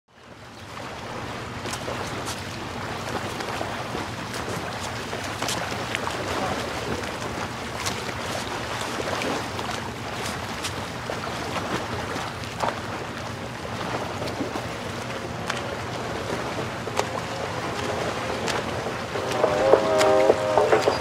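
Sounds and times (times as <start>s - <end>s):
wind: 0.1s - 21.0s
low steady hum: 0.2s - 21.0s
ocean surf: 0.8s - 21.0s.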